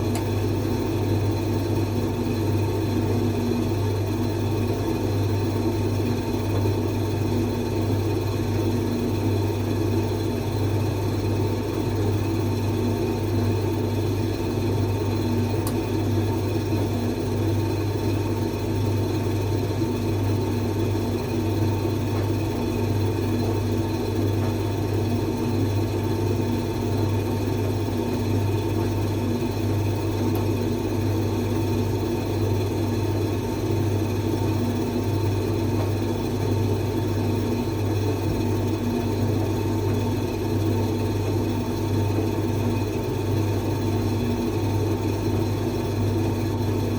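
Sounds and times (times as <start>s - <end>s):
appliance low hum and whir: 0.0s - 46.9s.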